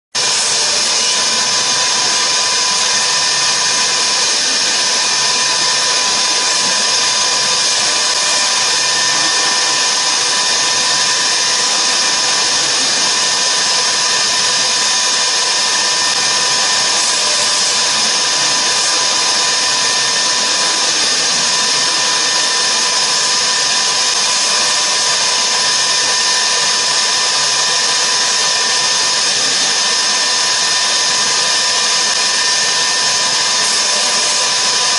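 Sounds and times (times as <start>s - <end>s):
router spindle whining: 0.1s - 34.9s
foam cutting hiss: 0.2s - 34.9s.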